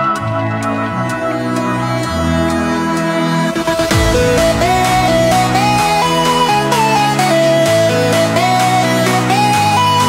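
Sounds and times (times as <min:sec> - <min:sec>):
electronic backing music: 0:00.0 - 0:10.0.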